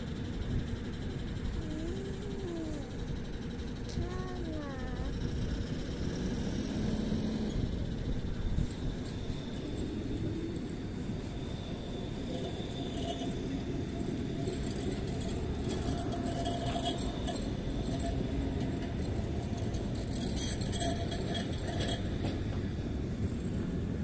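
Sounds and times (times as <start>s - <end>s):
tram rumbling on track: 0.0s - 24.0s
wheels squealing on rails: 0.0s - 24.0s.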